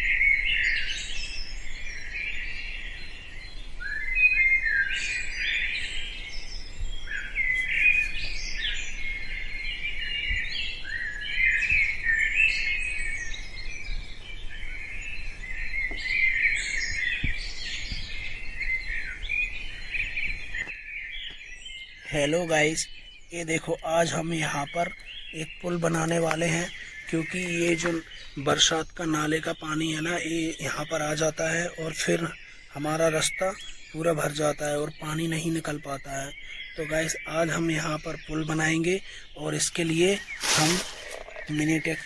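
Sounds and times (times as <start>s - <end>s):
many birds chirping: 0.0s - 42.0s.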